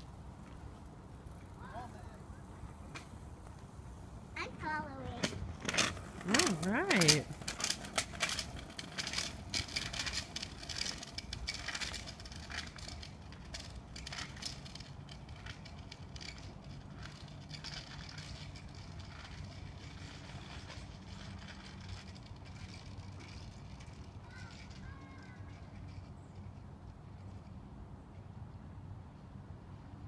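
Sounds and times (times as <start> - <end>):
bicycles rolling over asphalt: 0.0 - 28.3.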